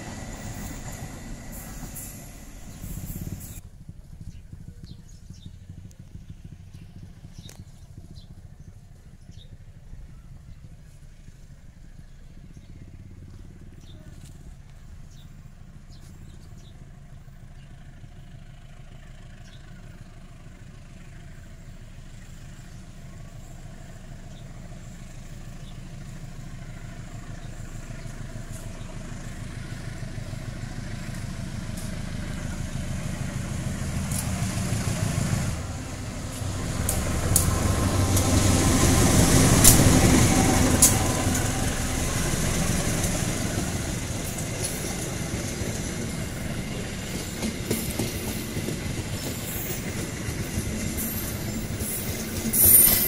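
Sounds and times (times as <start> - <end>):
wheels clicking on rails: 0.0 - 20.7, 21.4 - 53.0
locomotive engine droning: 0.0 - 53.0.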